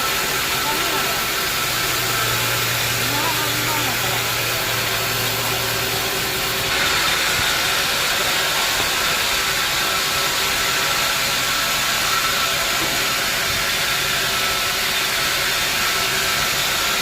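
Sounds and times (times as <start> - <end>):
band sawmill hiss and hum: 0.0 - 17.0.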